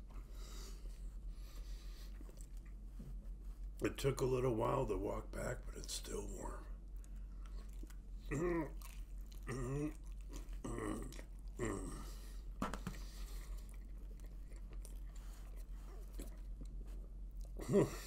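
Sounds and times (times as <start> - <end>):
man chewing food: 0.0 - 3.8, 6.8 - 18.0.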